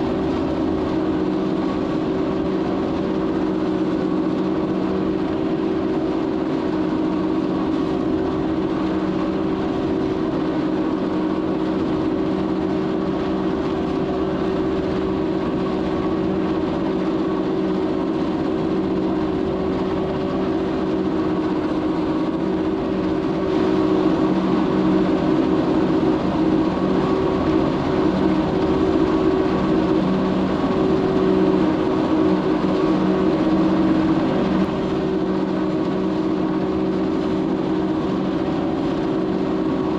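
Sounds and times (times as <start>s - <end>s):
tractor and cutter mechanical hum: 0.0s - 39.9s.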